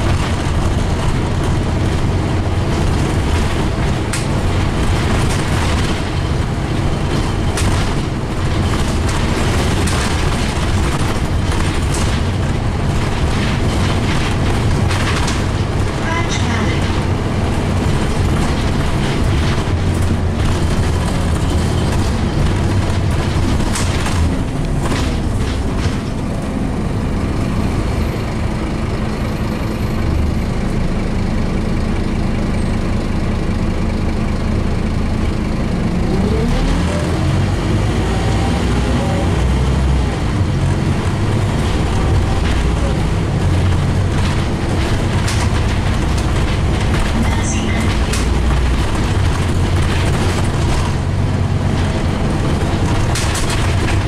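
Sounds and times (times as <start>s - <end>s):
bus diesel engine rumble: 0.0s - 54.0s.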